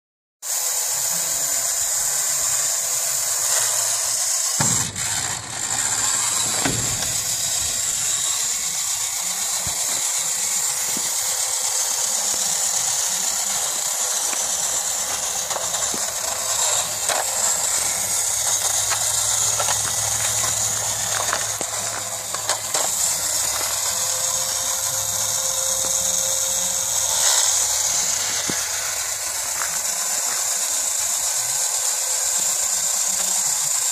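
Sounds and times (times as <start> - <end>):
toy gear mechanism whirring: 0.5 - 33.9.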